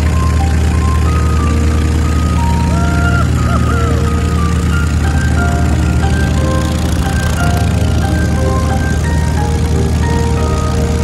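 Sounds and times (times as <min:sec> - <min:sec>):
aircraft engine droning: 0:00.0 - 0:11.0
melody of high held notes: 0:00.0 - 0:11.0.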